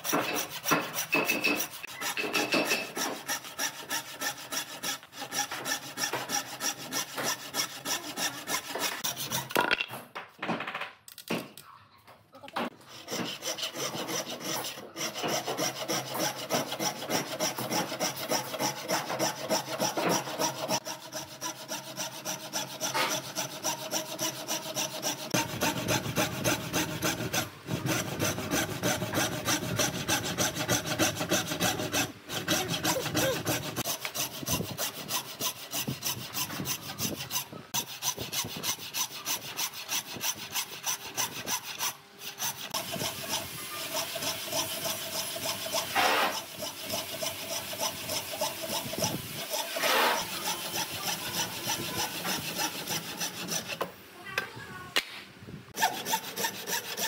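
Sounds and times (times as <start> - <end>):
hand saw cutting wood: 0.0 - 9.8, 12.6 - 54.0, 55.8 - 57.0.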